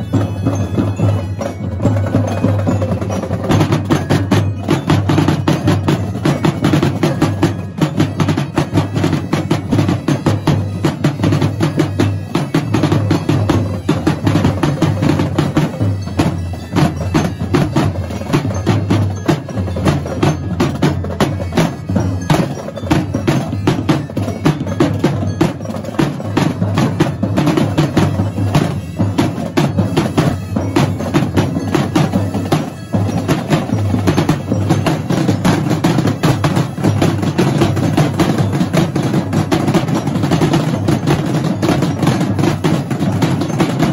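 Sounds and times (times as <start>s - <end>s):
marching snare drums: 0.0s - 43.9s.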